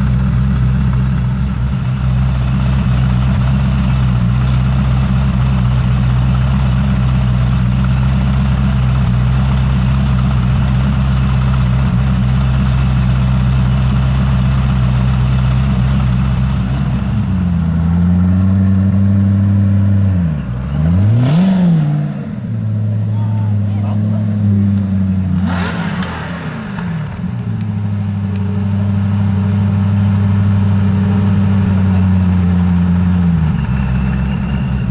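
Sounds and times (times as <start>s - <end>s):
car engine idling: 0.0s - 34.9s
engine revving: 0.0s - 34.9s.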